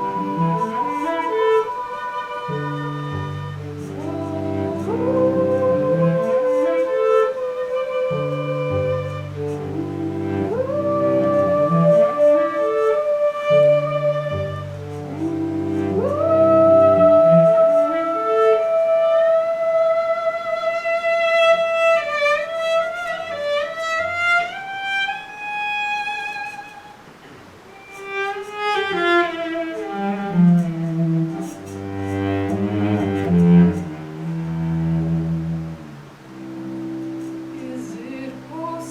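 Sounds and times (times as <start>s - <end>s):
lower bowed strings: 0.0s - 38.9s
violin playing: 0.0s - 38.9s.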